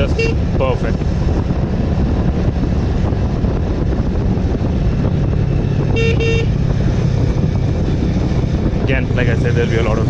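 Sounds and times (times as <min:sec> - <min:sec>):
motorcycle engine drone: 0:00.0 - 0:10.0
wind rushing over microphone: 0:00.0 - 0:10.0.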